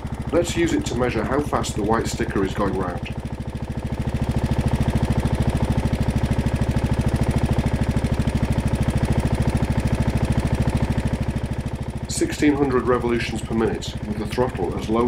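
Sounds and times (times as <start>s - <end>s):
lawn tractor engine idling: 0.0s - 15.0s.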